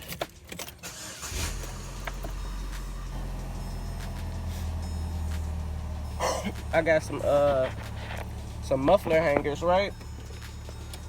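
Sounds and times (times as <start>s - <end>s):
car engine idling: 0.9s - 11.0s.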